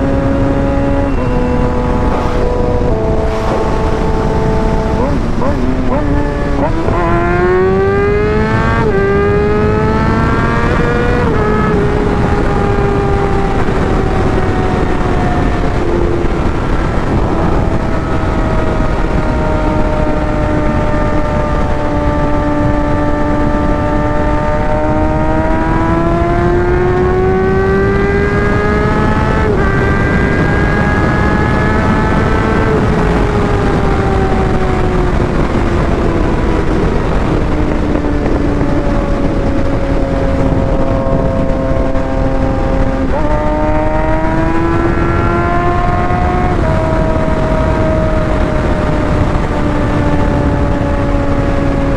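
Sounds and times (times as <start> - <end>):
motorcycle engine revving: 0.0 - 51.9
wind rush: 0.0 - 51.9.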